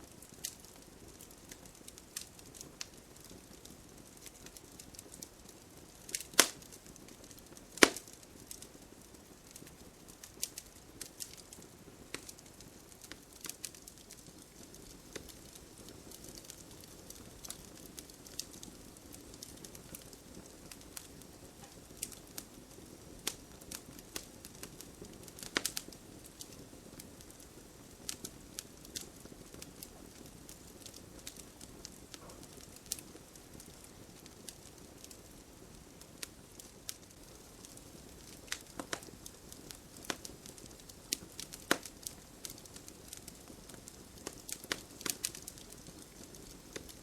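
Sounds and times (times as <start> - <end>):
campfire flames rumbling: 0.0 - 47.0
wood fire crackling and popping: 0.0 - 47.0.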